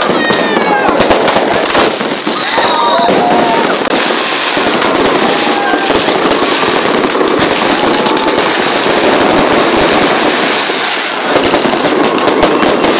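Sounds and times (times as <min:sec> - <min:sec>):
firework crackling pops: 0:00.0 - 0:12.9
firework hiss: 0:00.0 - 0:12.9.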